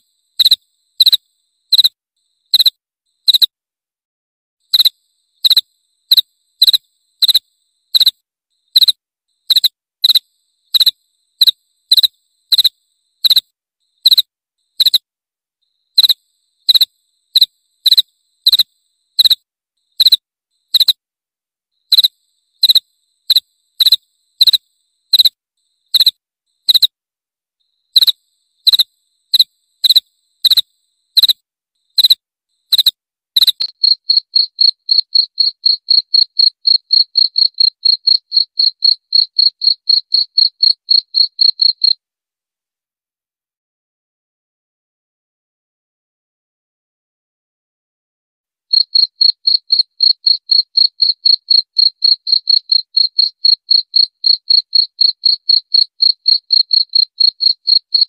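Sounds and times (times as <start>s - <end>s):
cricket chirping: 0.0s - 3.6s, 4.6s - 21.0s, 21.7s - 27.0s, 27.6s - 42.0s, 48.7s - 58.0s.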